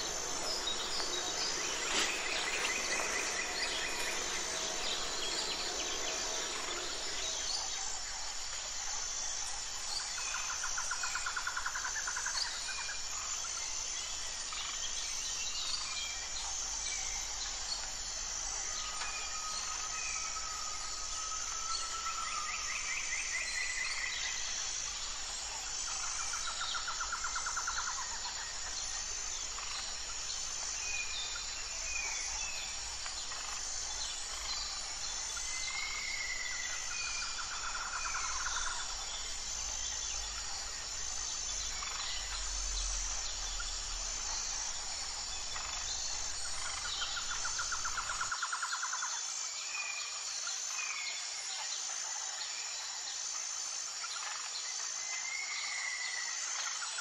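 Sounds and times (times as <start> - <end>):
steady high hiss: 0.0 - 49.8.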